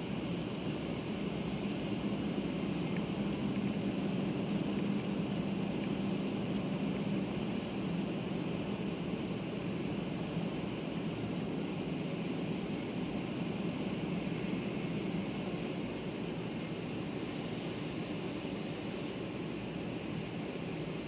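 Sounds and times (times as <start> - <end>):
train running noise inside car: 0.0 - 21.0.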